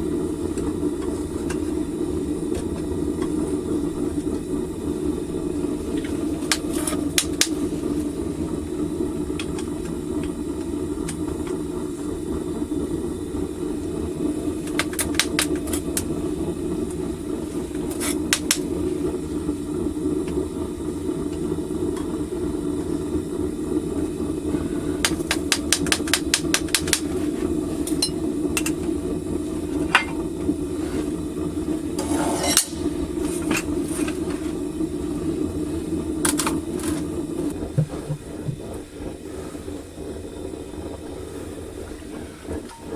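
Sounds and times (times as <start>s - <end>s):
burner roaring: 0.0s - 42.9s.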